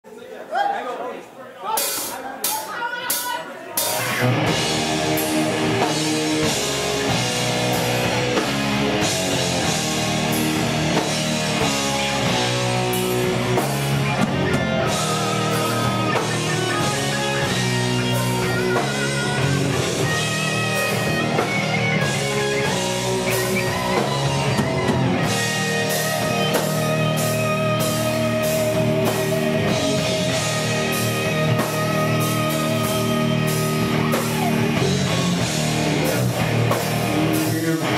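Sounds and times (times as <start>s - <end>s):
pounding drum kit: 1.8s - 37.9s
distorted electric guitars: 3.8s - 37.9s.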